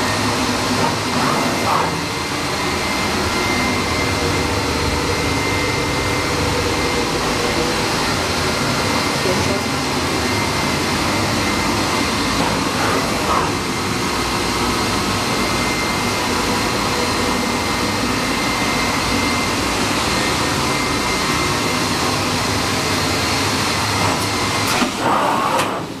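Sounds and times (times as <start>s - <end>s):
high steady whine: 0.0s - 26.0s
machining centre rushing noise: 0.0s - 26.0s.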